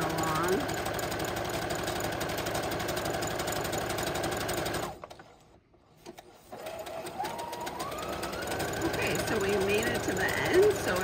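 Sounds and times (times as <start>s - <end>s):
sewing machine stitching: 0.0s - 11.0s.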